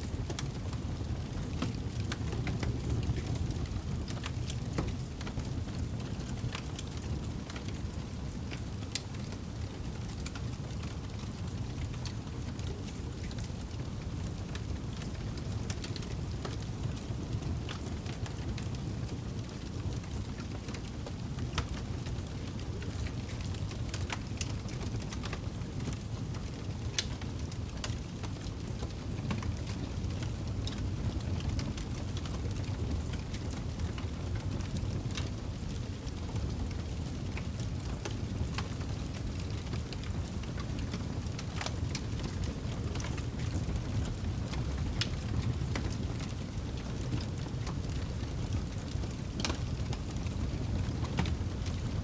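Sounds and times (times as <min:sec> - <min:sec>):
campfire crackling and popping: 0:00.0 - 0:52.0.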